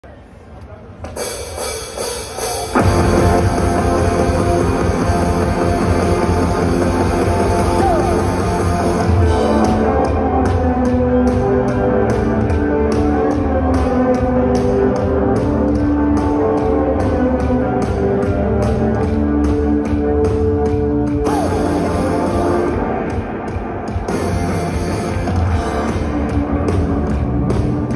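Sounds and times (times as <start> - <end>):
rock band playing live: 1.8 - 27.9.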